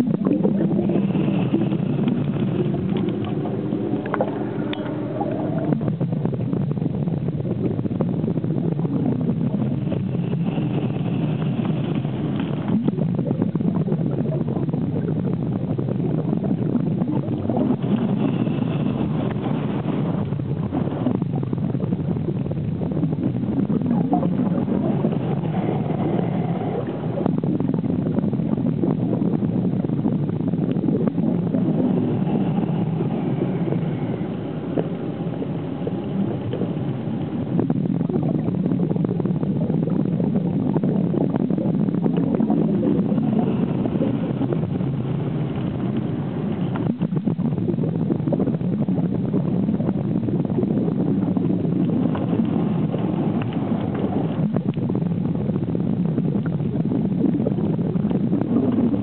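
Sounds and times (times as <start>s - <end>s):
faint high whine: 0.0s - 39.8s, 40.4s - 49.3s
underwater rumble and hiss: 0.0s - 59.0s.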